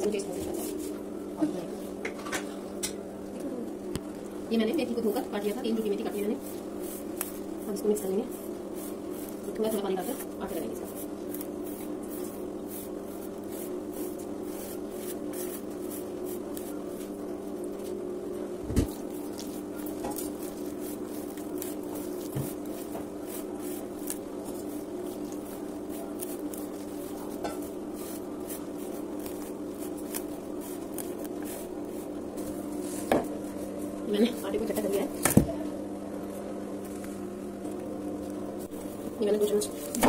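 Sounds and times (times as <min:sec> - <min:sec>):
hands mixing flour in a bowl: 0:00.0 - 0:02.1, 0:04.2 - 0:35.2, 0:36.2 - 0:40.0
steady low hum: 0:00.0 - 0:40.0.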